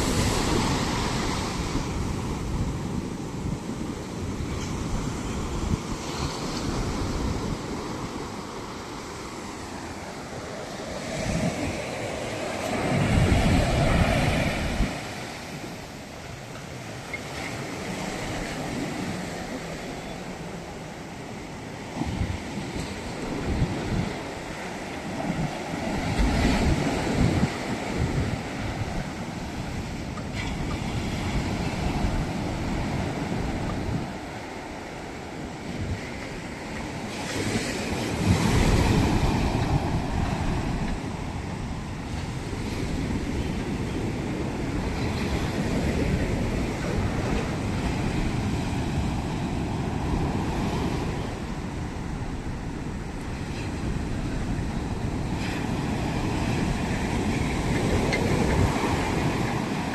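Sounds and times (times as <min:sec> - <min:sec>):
wind on microphone: 0:00.0 - 0:20.8, 0:21.6 - 0:59.9
sea waves breaking on shore: 0:00.0 - 0:59.9.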